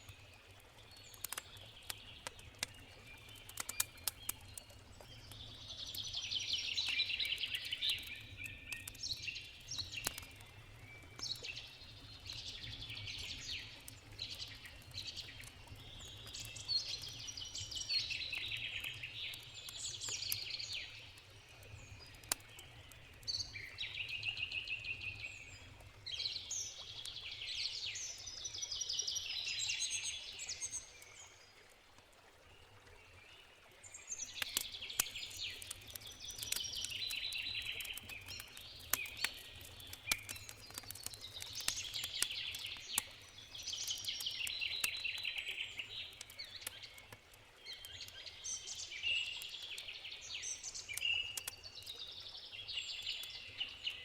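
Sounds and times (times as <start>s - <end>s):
songbirds singing: 0.0s - 31.6s, 32.5s - 54.0s
campfire crackling: 0.0s - 32.9s, 33.8s - 53.8s.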